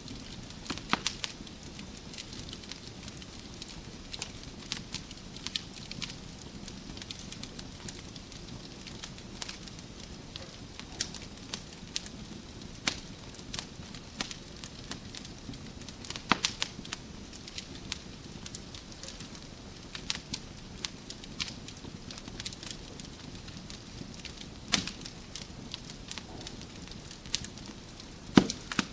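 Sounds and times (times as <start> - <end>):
low rumble and hiss: 0.0 - 28.9
wood fire crackling and popping: 0.0 - 28.9.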